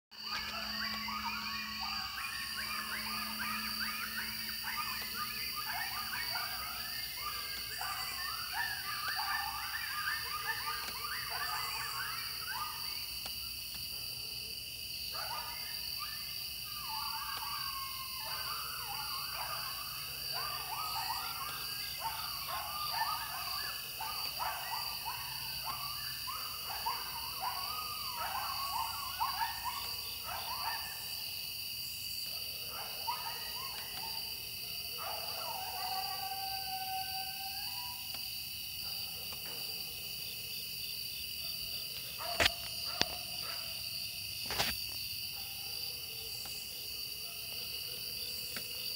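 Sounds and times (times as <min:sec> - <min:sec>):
coyotes yipping and howling: 0:00.1 - 0:48.9.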